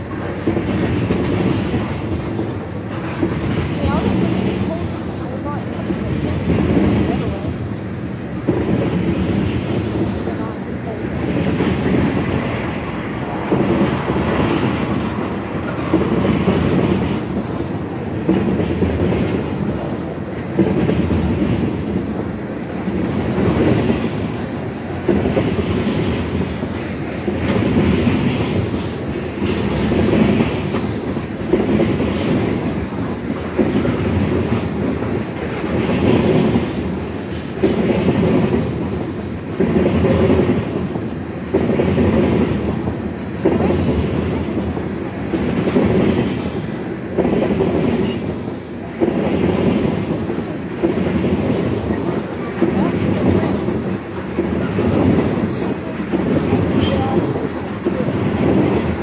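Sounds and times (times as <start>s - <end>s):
freight train rolling past: 0.0s - 59.0s
wheels clicking over rail joints: 0.0s - 59.0s.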